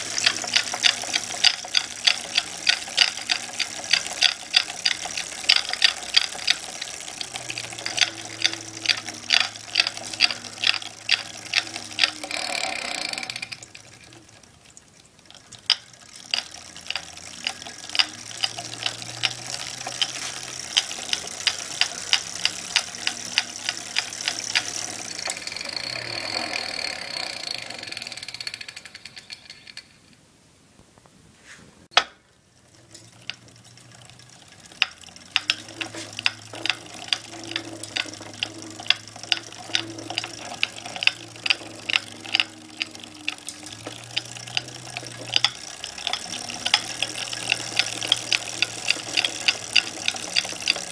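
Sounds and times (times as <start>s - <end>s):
bike drivetrain clicking: 0.0s - 30.0s, 31.9s - 50.9s
steady whirr: 0.0s - 30.2s, 31.8s - 50.9s.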